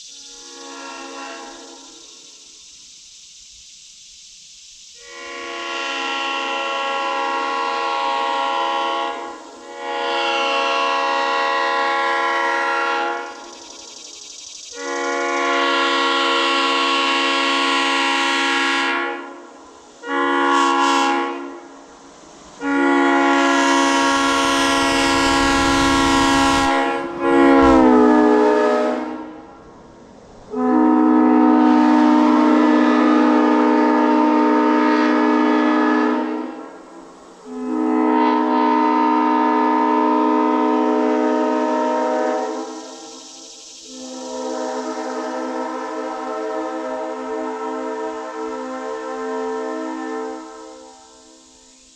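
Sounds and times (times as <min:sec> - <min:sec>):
air horn blasts: 0:00.3 - 0:01.9, 0:05.0 - 0:13.4, 0:14.8 - 0:21.7, 0:22.6 - 0:29.5, 0:30.5 - 0:36.8, 0:37.5 - 0:42.8, 0:44.0 - 0:51.3.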